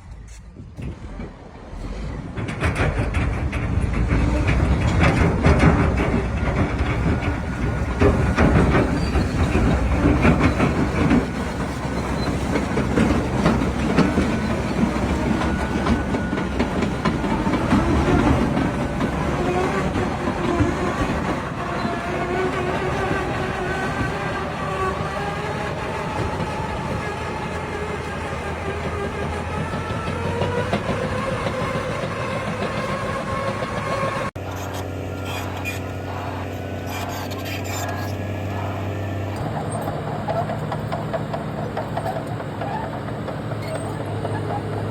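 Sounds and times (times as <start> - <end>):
heavy diesel engine running: 0.0 - 44.9
steel crawler tracks clanking: 0.0 - 44.9.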